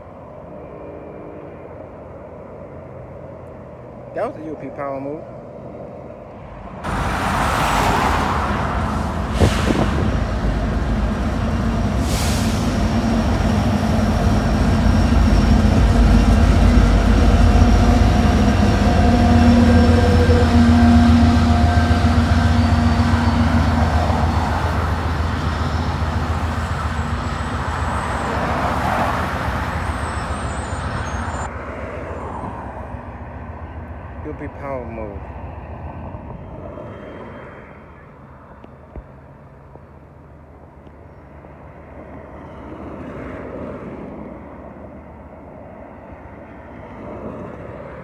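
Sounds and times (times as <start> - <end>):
diesel locomotives rumbling: 0.0 - 48.0.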